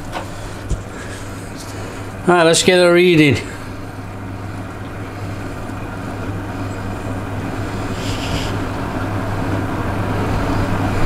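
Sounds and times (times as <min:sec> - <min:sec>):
electric fan hum: 0:00.0 - 0:11.0.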